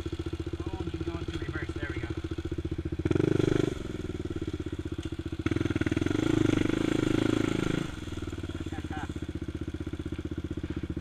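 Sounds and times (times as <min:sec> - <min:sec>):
quad engine idling and revving: 0:00.0 - 0:11.0.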